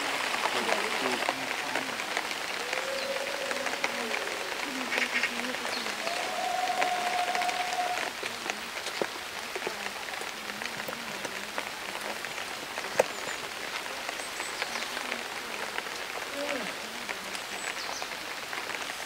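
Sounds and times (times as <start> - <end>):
light rain on rock: 0.0 - 19.0.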